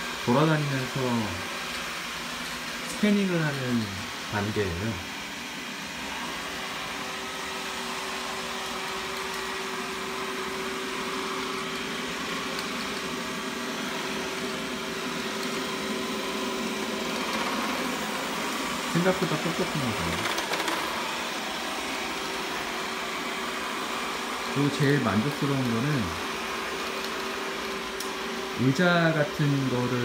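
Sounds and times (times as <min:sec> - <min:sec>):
robot vacuum whirring: 0:00.0 - 0:30.0.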